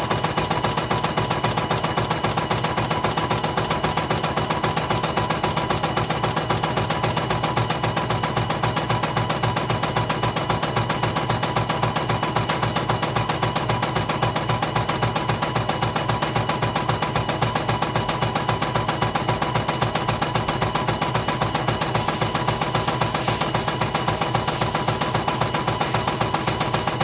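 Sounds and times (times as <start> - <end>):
machine running tone: 0.0 - 27.0.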